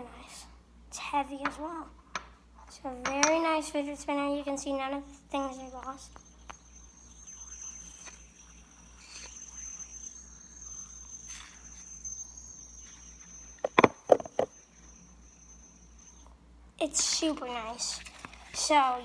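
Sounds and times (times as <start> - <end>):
fidget spinner bearing whine: 3.0 - 19.0.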